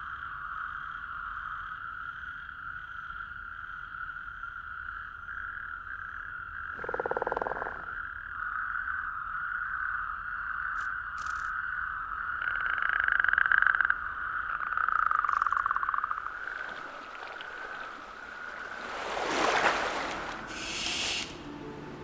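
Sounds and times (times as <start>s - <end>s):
frog chorus: 0.0s - 20.8s
close frog croak: 0.4s - 18.8s.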